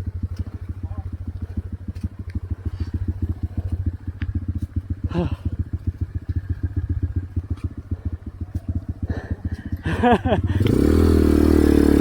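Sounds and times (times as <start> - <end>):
motorcycle engine idling low: 0.0 - 12.0.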